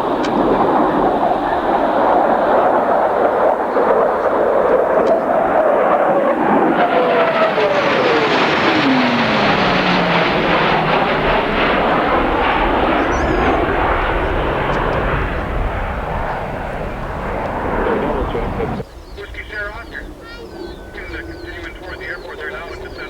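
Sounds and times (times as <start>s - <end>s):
jet passing with falling whine: 0.0s - 23.0s.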